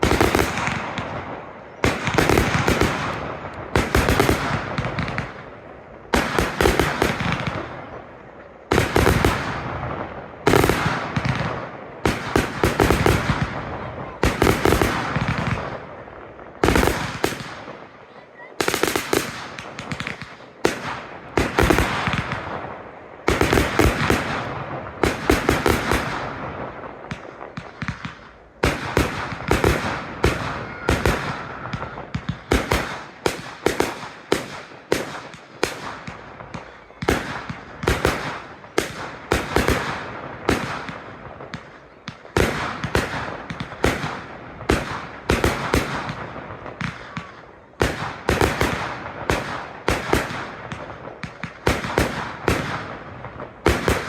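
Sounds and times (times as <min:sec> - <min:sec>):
fireworks bangs: 0:00.0 - 0:54.0
fireworks crackle: 0:00.0 - 0:54.0.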